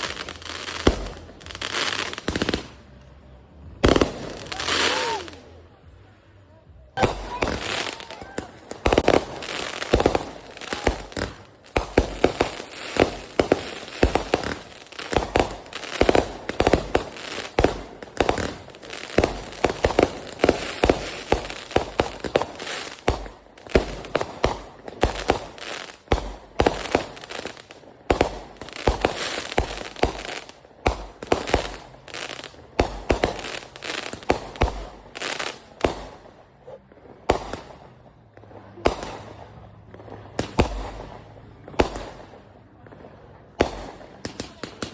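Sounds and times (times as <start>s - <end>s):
fireworks bangs and pops: 0.0s - 5.6s, 7.0s - 44.9s.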